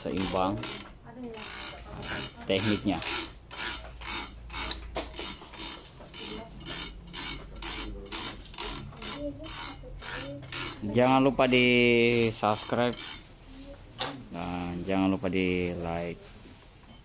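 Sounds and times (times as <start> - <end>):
tool rasping across racquet strings: 0.0 - 13.6.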